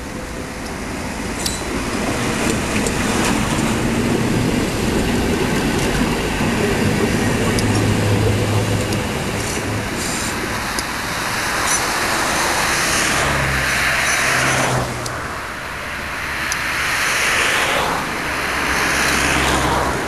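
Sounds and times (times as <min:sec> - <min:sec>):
tram running on rails: 0:00.0 - 0:20.0.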